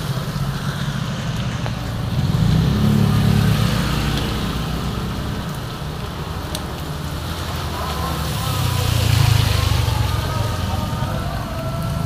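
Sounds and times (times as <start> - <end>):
rain on a wet road: 0.0 - 12.0.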